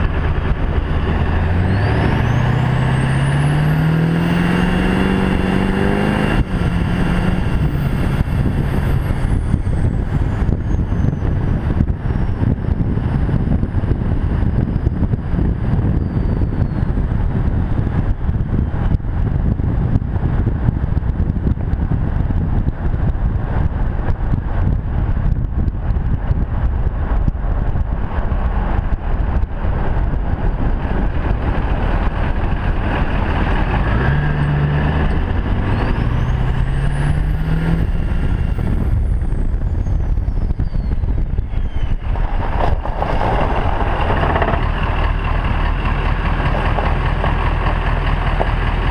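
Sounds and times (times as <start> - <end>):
diesel truck exhaust rumble: 0.0 - 48.9.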